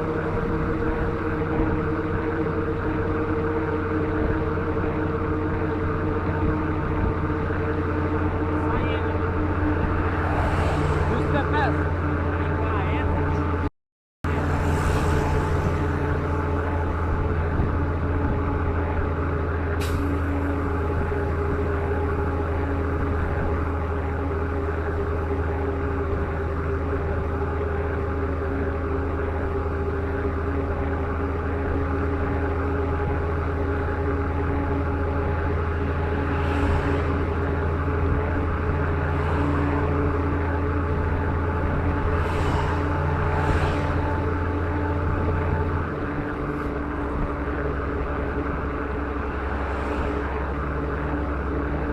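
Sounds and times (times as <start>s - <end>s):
road noise: 0.0s - 51.9s
rushing wind: 0.0s - 51.9s
truck engine running: 0.0s - 51.9s.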